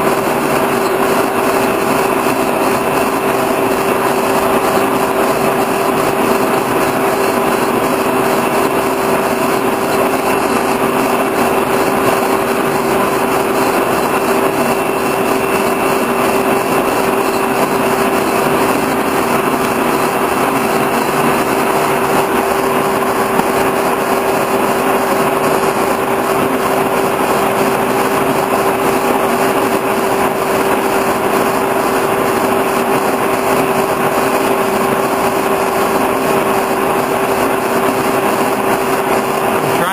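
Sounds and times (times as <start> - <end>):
boring mill running: 0.0 - 39.9.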